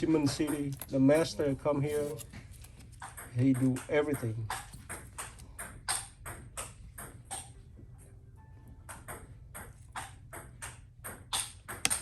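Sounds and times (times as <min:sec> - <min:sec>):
tools clicking and scraping on phone: 0:00.0 - 0:07.6, 0:08.9 - 0:12.0.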